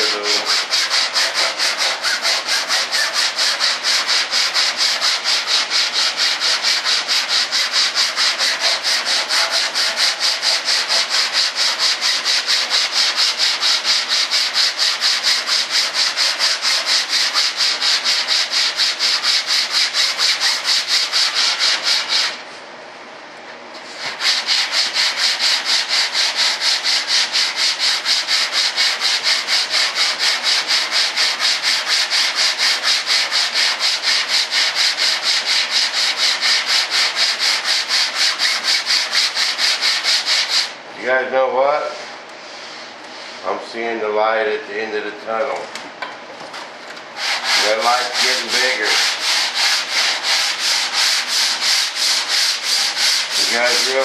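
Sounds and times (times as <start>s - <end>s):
sandpaper rubbing: 0.0s - 22.4s, 23.8s - 40.8s, 47.2s - 54.0s.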